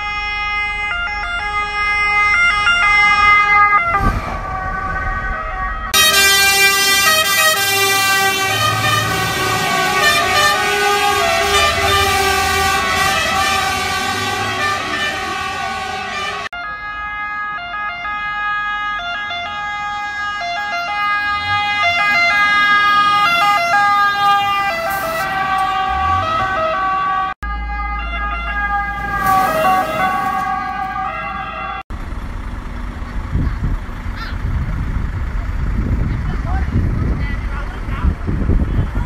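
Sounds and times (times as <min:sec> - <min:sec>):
two-tone fire engine sirens: 0:00.0 - 0:32.2
truck engine running: 0:03.0 - 0:16.5, 0:19.5 - 0:27.3, 0:28.8 - 0:39.0.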